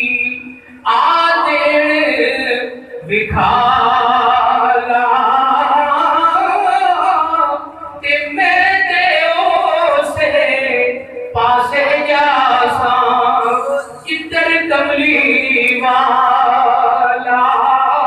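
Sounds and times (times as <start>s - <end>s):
man chanting verse: 0.0s - 18.0s.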